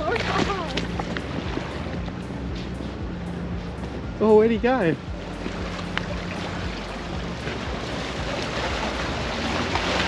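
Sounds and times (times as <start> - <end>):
waves washing: 0.0 - 10.0.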